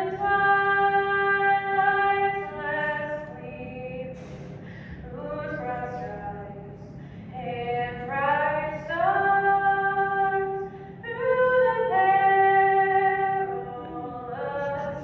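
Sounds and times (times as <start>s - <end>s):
woman singing unaccompanied: 0.0s - 4.3s, 5.0s - 15.0s.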